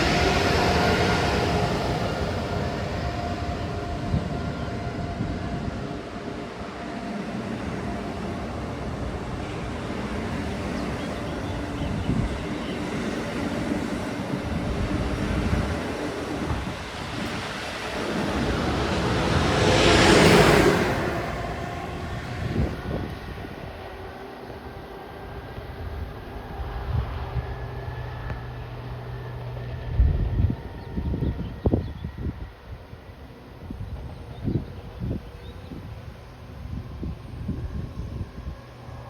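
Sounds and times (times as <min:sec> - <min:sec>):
passenger train rumbling past: 0:00.0 - 0:39.0.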